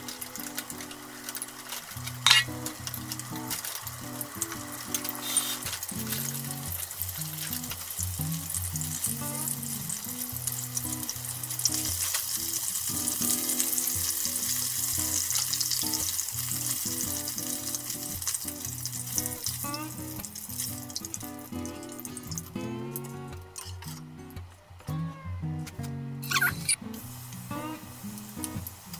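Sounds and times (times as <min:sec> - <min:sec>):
small clicks of turning food: 0:00.0 - 0:09.5, 0:10.1 - 0:24.9
prawns sizzling in oil: 0:00.0 - 0:24.3, 0:26.3 - 0:28.9.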